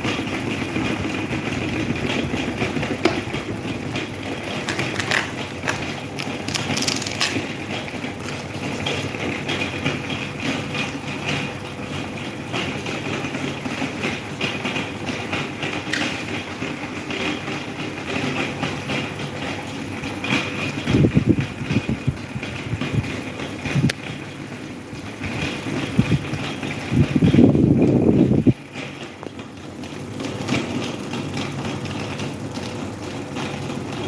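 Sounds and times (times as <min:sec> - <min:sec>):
electric fan humming: 0:00.0 - 0:34.0.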